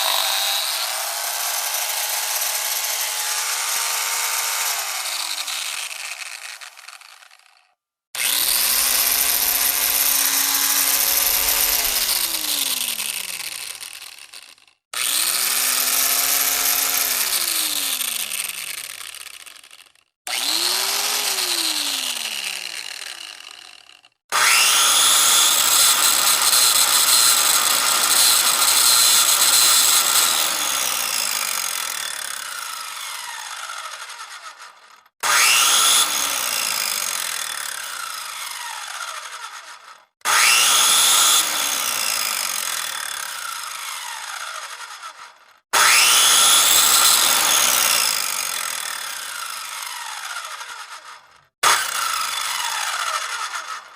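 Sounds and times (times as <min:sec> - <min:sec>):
electric power tool motor whirring: 0:00.0 - 0:53.9.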